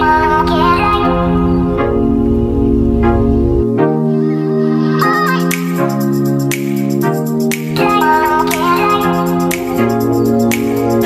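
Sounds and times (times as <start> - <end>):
sustained instrumental chords: 0.0 - 11.0.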